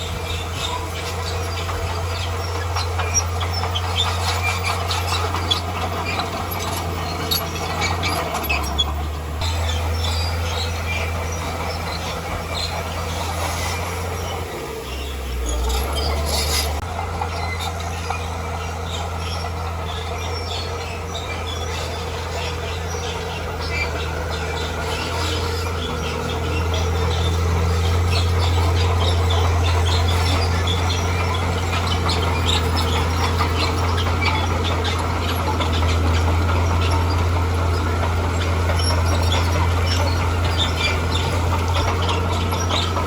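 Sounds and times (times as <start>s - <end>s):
bulldozer diesel engine: 0.0s - 43.0s
metallic clanking and squeaking: 0.0s - 43.0s.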